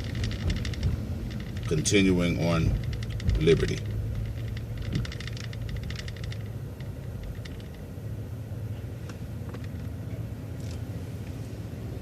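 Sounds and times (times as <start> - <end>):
light rattles and ticks: 0.0 - 7.9, 9.0 - 11.4
bus engine and road rumble: 0.0 - 12.0.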